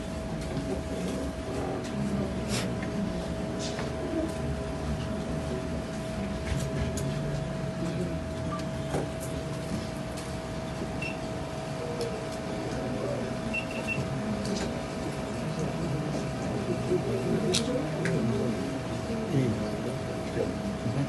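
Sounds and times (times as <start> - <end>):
room hum: 0.0 - 21.0.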